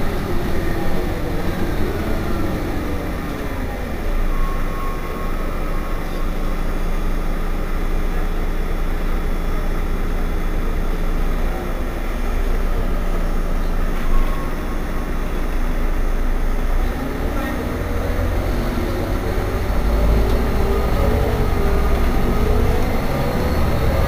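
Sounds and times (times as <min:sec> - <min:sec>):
bus engine idling: 0:00.0 - 0:24.0.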